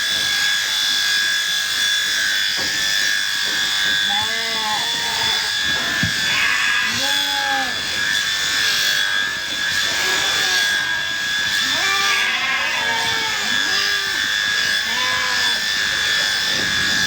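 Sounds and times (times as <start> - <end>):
electric shears buzzing whine: 0.0 - 17.0.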